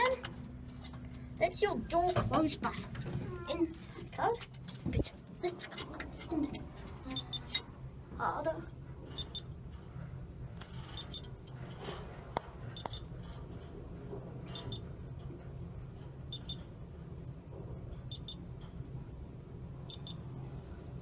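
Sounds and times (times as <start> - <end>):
lift car low hum: 0.0 - 21.0.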